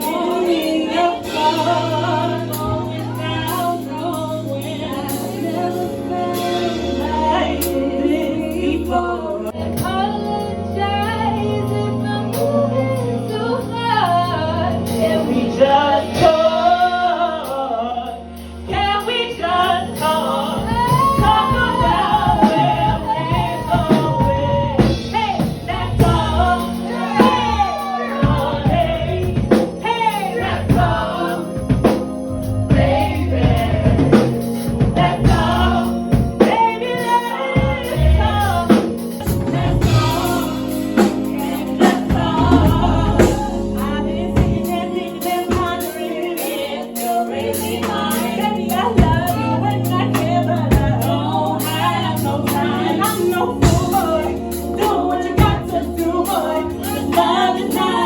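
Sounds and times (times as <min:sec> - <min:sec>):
live band music: 0:00.0 - 0:58.0
women singing: 0:00.0 - 0:58.0.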